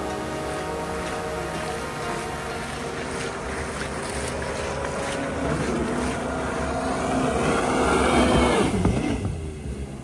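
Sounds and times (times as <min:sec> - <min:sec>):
jet boat engine passing by: 0:00.0 - 0:10.0.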